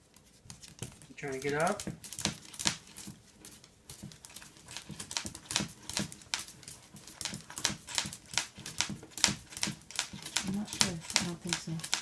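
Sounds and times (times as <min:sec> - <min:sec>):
dog claws clicking on tile: 0:00.1 - 0:12.0.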